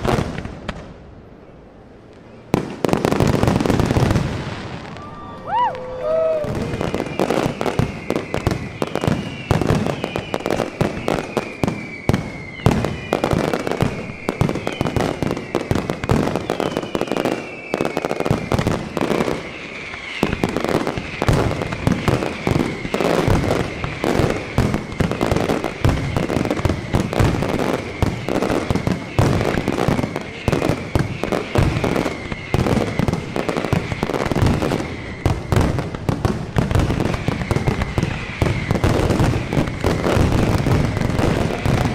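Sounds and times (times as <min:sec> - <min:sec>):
falling firework whistles: 0:02.5 - 0:41.9.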